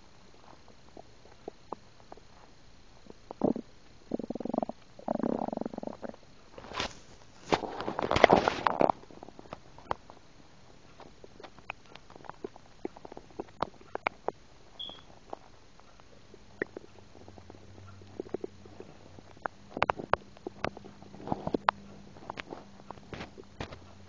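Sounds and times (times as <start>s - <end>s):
low steady rumble: 0.0s - 24.0s
stomach gurgling pops: 0.3s - 10.3s, 10.9s - 23.9s.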